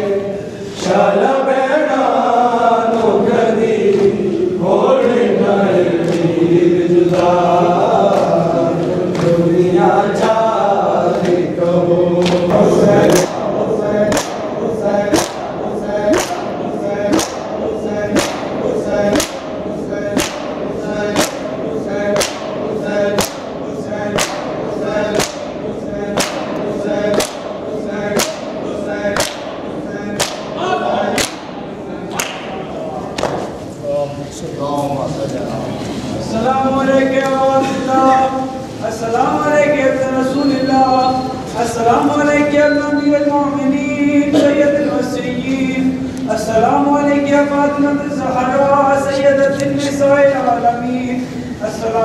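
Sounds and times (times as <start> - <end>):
men chanting in unison: 0.0 - 52.0.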